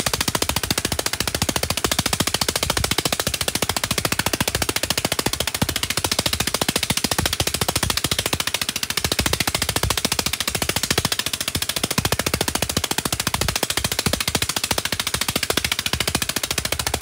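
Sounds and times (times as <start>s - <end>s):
drilling rig rapid knocking: 0.0s - 17.0s.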